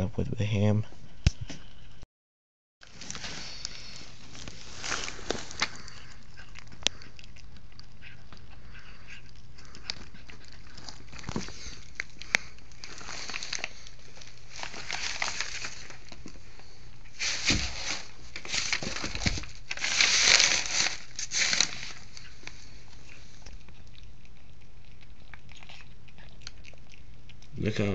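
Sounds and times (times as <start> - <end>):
cat chewing and tearing meat: 2.8 - 27.9.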